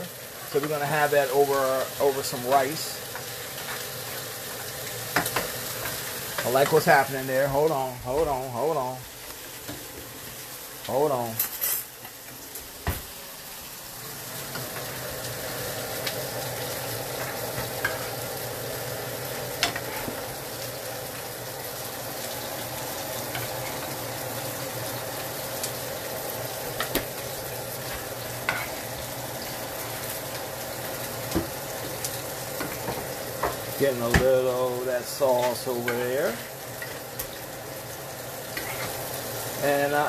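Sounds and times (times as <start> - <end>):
sauce sizzling and bubbling: 0.0 - 40.0.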